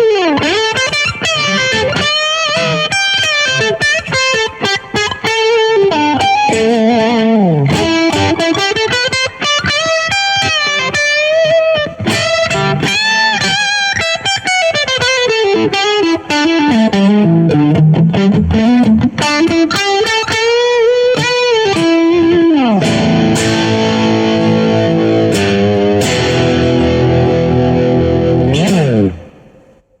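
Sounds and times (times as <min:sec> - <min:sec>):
distorted electric guitar: 0:00.0 - 0:30.0.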